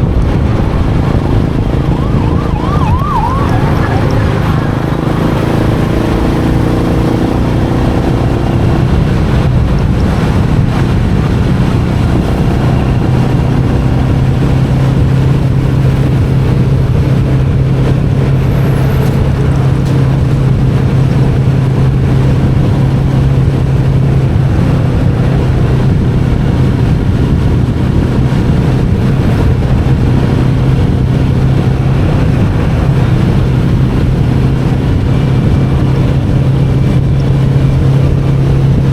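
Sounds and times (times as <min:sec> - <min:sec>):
motorcycle engine cruising: 0:00.0 - 0:38.9
road and wind noise: 0:00.0 - 0:38.9.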